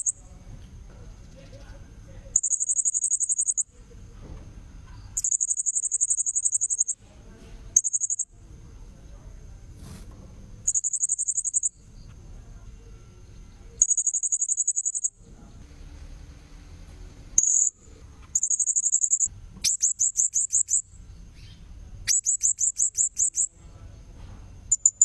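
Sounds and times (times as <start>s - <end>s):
faint high whine: 0.0s - 25.0s.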